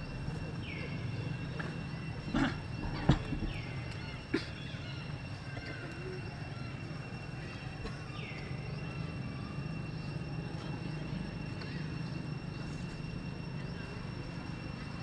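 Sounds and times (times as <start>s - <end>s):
faint high whine: 0.0s - 15.0s
low background hum: 0.0s - 15.0s.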